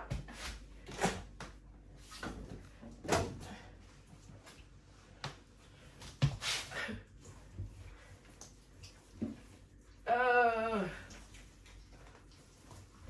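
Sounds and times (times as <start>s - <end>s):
wet laundry rustling: 0.2s - 13.0s.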